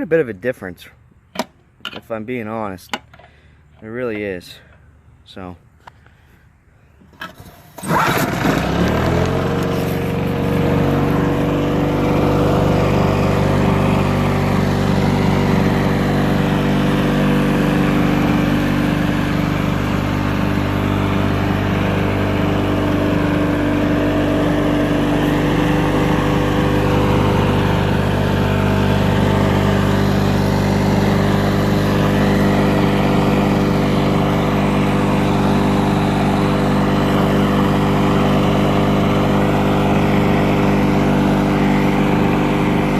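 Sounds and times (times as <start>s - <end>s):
lawn mower engine: 4.5s - 42.9s.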